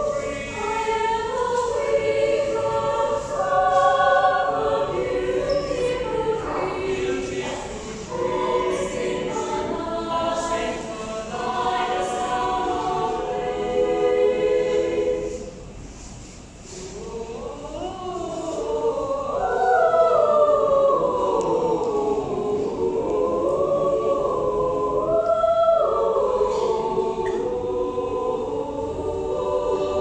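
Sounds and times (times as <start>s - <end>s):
mixed choir singing: 0.0s - 15.9s, 16.6s - 30.0s.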